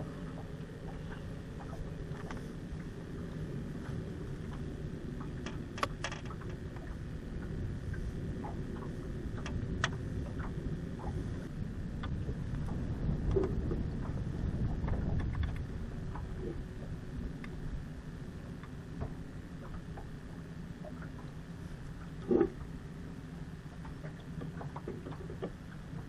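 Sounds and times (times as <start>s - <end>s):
water against boat: 0.0s - 26.0s
wind: 0.0s - 26.0s.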